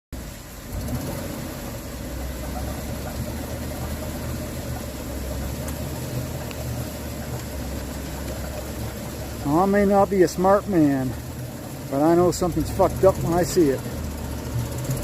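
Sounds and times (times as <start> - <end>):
truck engine rumbling: 0.1 - 15.0.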